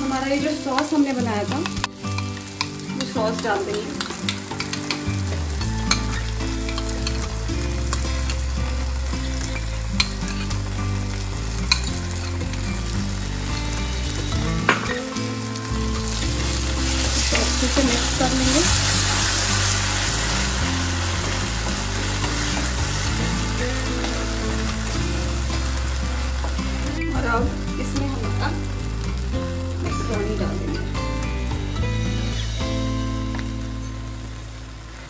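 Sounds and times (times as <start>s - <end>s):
sauce sizzling in a pan: 0.0s - 35.0s.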